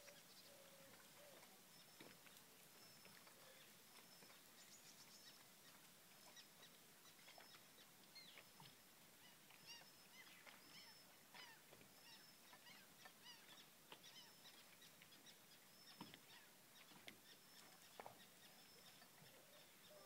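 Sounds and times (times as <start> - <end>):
low steady hiss: 0.0 - 20.0.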